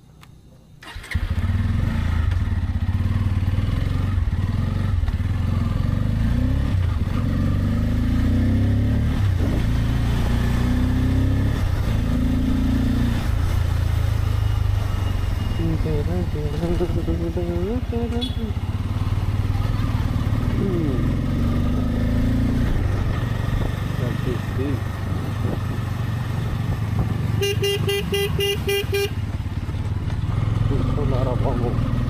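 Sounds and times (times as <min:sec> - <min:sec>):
motorcycle engine starting and running: 0:00.8 - 0:32.0.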